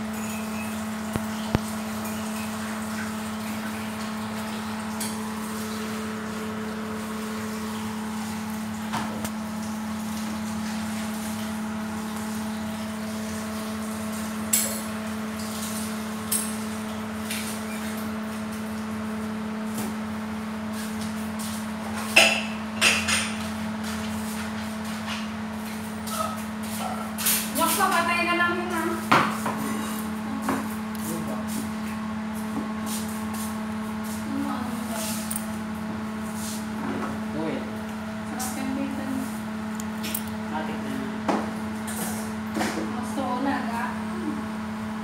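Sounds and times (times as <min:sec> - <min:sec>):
appliance motor hum: 0:00.0 - 0:45.0.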